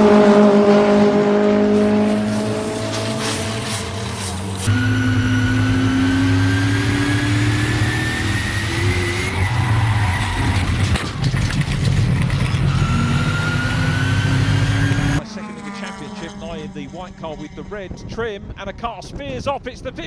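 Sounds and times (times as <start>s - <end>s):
racing car engines accelerating: 0.0s - 18.0s.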